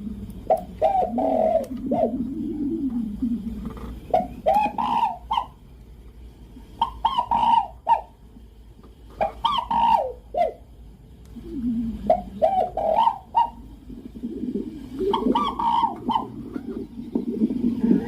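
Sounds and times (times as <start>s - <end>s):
fowl calling: 0.4s - 5.6s, 6.6s - 8.2s, 9.2s - 10.7s, 11.4s - 18.0s.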